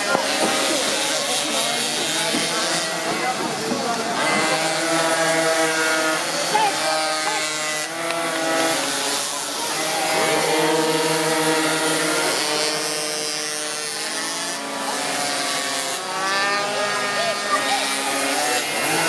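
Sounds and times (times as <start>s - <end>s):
small two-stroke engines buzzing: 0.0s - 19.0s.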